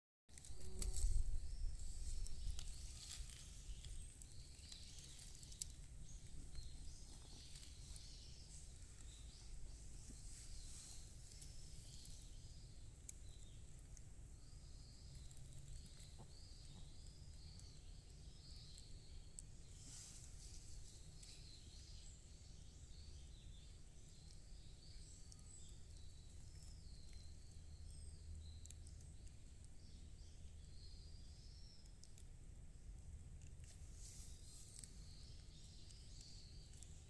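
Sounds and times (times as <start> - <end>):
birds chirping and twittering: 0.3 - 37.0.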